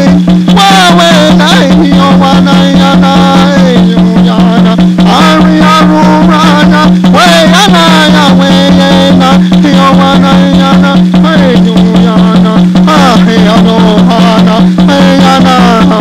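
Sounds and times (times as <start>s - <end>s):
background music with steady beat: 0.0s - 16.0s.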